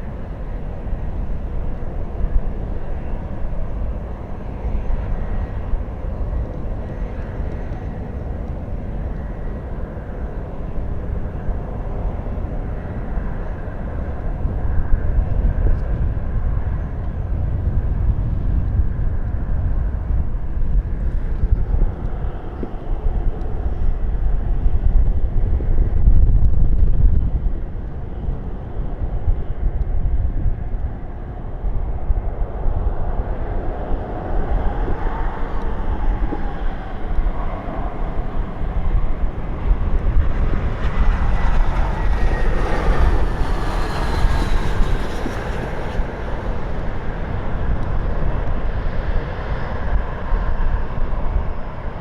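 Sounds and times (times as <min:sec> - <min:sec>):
jet aircraft passing: 0:00.0 - 0:26.7, 0:27.3 - 0:52.0
wind buffeting microphone: 0:00.0 - 0:52.0.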